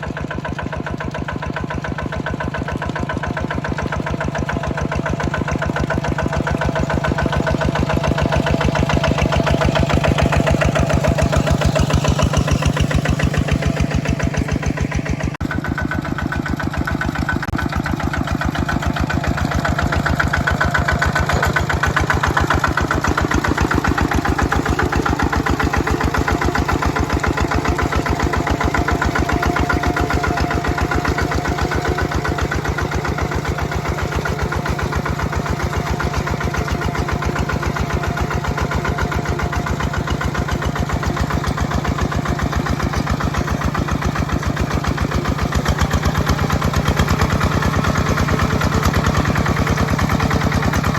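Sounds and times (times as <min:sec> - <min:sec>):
tractor engine chugging: 0:00.0 - 0:50.9.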